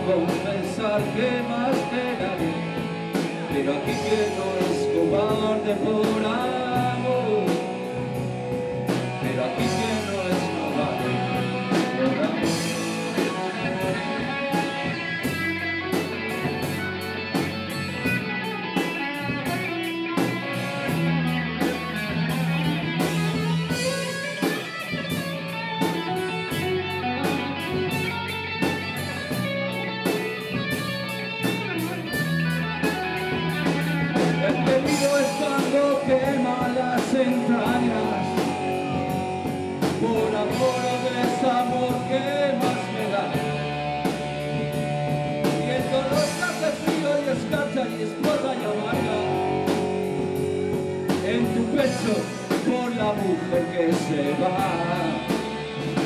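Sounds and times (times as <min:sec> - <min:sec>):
bass guitar: 0:00.0 - 0:56.0
drum kit: 0:00.0 - 0:56.0
electric guitar lead: 0:00.0 - 0:56.0.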